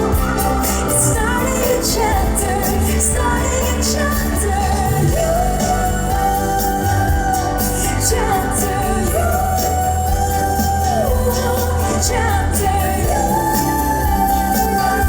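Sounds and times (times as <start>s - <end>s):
woman singing pop song: 0.0s - 15.0s.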